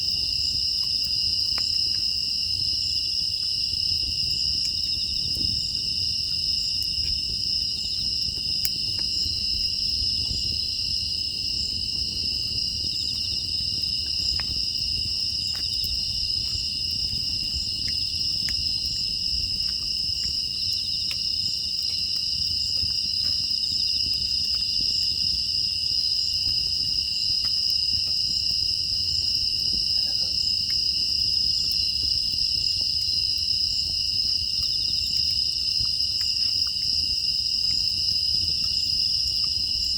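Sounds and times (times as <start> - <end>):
crickets chirring: 0.0 - 39.9
wood fire crackling: 0.0 - 39.9.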